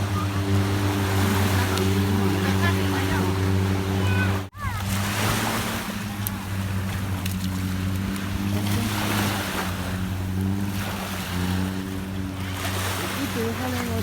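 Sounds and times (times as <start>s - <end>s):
boat engine droning: 0.0s - 14.0s
sea water rushing: 0.0s - 14.0s.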